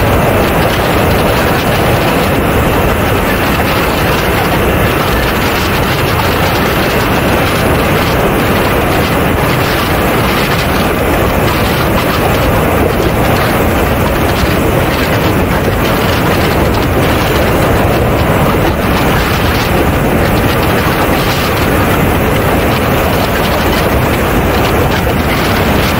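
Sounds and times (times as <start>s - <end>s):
model jet airflow and engine: 0.0s - 25.9s.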